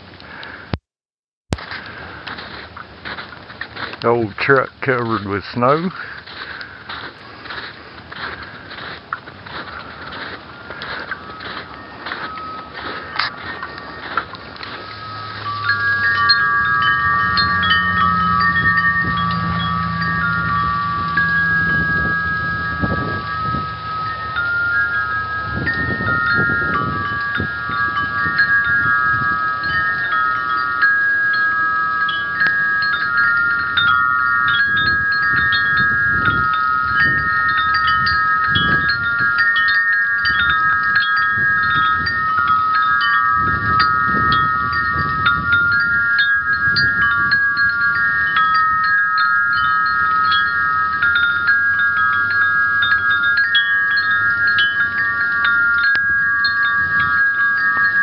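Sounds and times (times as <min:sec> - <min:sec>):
metal wind chimes ringing: 0:01.5 - 0:58.0
wind gusts rumbling: 0:05.1 - 0:58.0.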